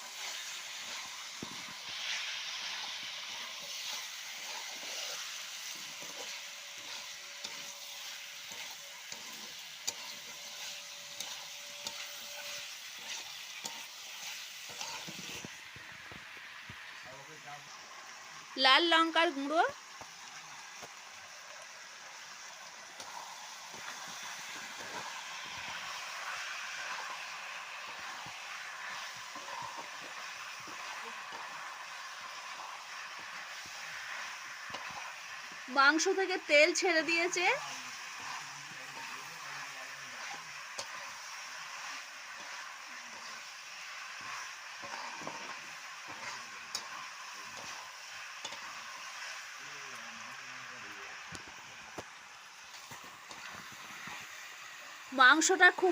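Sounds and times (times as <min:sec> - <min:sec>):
chicken sizzling in oil: 0:00.0 - 0:55.9.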